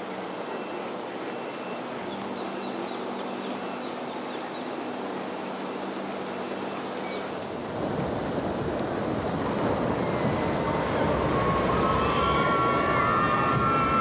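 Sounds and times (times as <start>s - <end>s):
boat engine hum: 0.0s - 14.0s
water rushing: 0.0s - 14.0s.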